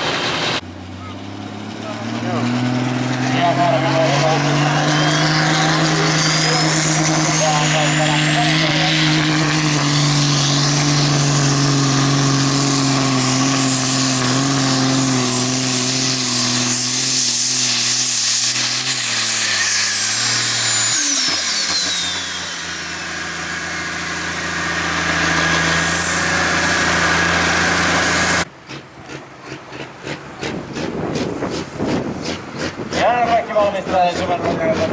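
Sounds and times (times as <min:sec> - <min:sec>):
diesel engine running under load: 0:00.0 - 0:34.9
high turbo whine: 0:00.0 - 0:34.9.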